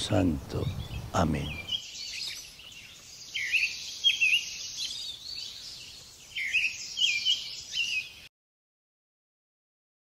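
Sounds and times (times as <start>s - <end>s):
birds chirping: 0.0s - 8.3s
faint outdoor hiss: 0.0s - 8.3s.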